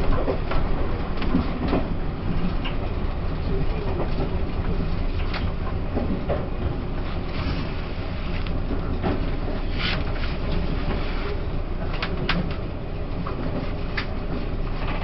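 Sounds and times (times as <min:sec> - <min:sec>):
wheels rumbling on track: 0:00.0 - 0:15.0.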